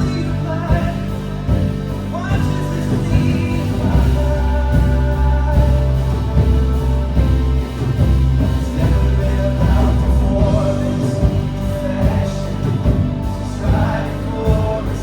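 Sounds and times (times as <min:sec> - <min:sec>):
person singing: 0:00.0 - 0:15.0
worship band playing slow song: 0:00.0 - 0:15.0.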